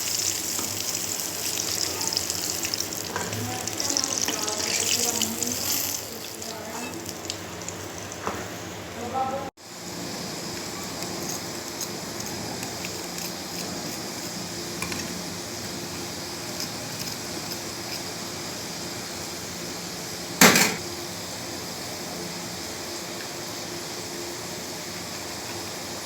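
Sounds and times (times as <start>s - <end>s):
kitchen hum and hiss: 0.0s - 26.0s.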